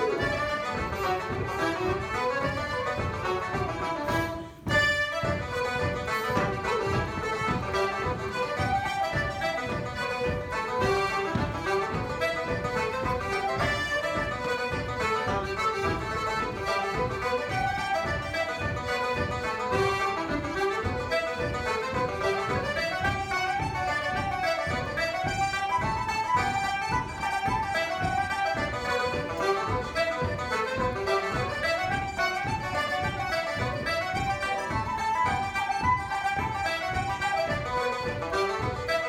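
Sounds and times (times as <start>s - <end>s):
accordion flute and banjo tune: 0.0s - 39.0s.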